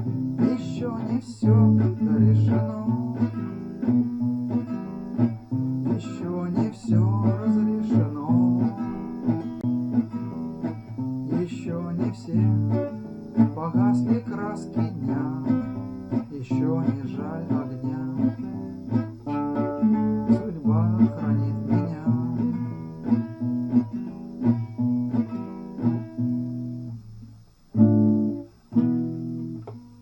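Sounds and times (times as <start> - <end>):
acoustic guitar chords: 0.0 - 30.0.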